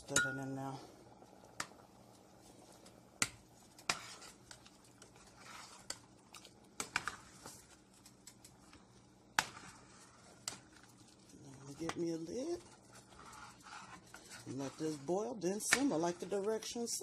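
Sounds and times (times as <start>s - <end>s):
soft swishing of stirring: 0.0s - 17.0s.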